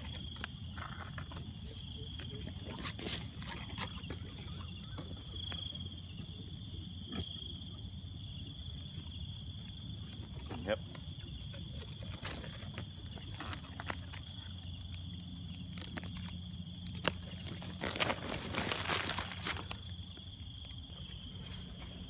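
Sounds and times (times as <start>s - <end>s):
rustling and crunching: 0.0s - 5.8s, 9.9s - 22.0s
crickets and insects chirping: 0.0s - 22.0s.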